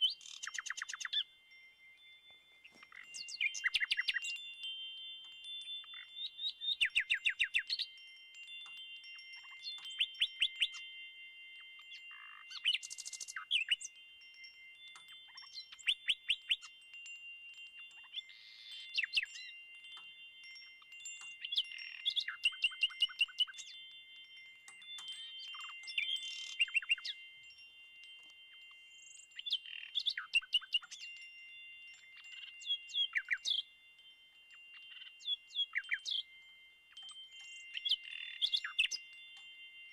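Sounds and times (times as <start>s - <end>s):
high ringing tones: 0.0s - 39.9s
quick tinkling clicks: 0.0s - 39.9s.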